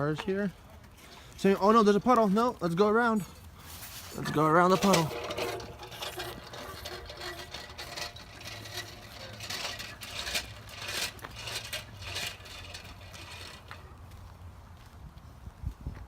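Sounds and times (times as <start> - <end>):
bike wheels crunching on rough ground: 0.9 - 15.0.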